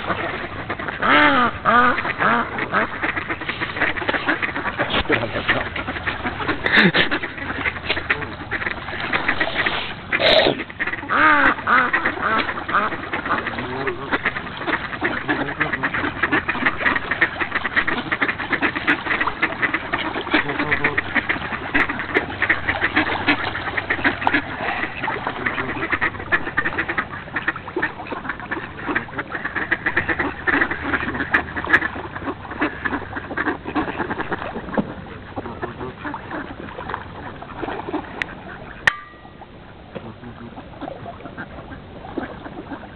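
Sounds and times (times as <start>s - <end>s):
flock of ducks quacking: 0.0s - 42.9s.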